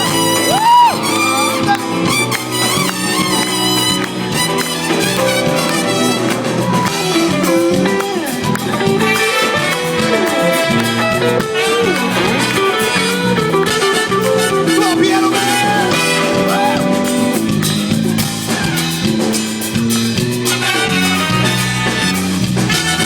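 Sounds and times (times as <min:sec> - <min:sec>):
saxophone solo: 0:00.0 - 0:17.7, 0:20.5 - 0:23.0
live band playing: 0:00.0 - 0:23.0.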